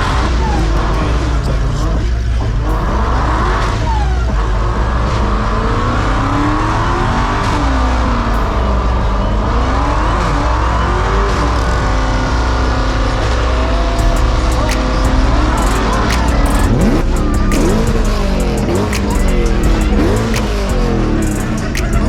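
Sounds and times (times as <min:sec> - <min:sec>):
car engines revving: 0:00.0 - 0:22.0
low engine rumble: 0:00.0 - 0:22.0.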